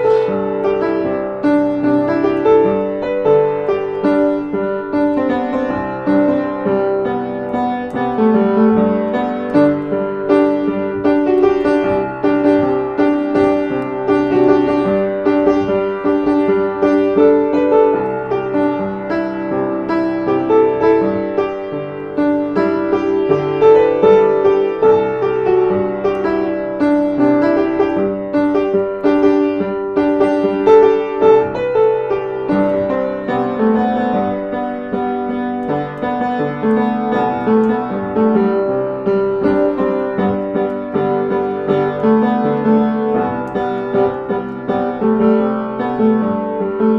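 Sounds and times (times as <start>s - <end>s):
flowing piano melody: 0.0s - 46.9s.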